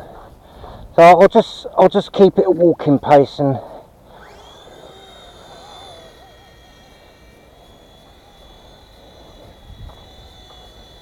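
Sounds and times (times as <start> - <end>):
rc helicopter rotor whine: 0.0 - 11.0.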